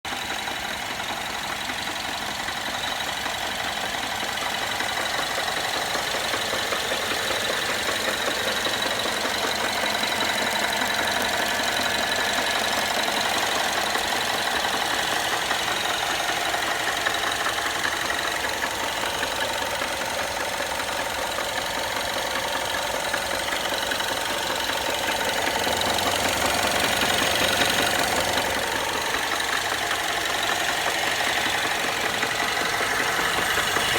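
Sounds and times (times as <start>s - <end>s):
car engine idling: 0.0s - 33.9s
rapid tapping knock in engine: 0.1s - 33.9s.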